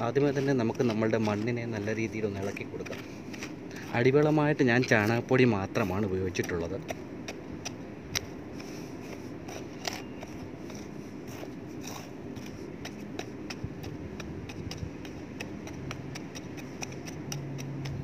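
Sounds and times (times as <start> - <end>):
hand hoe scraping dry soil: 0.0 - 18.0.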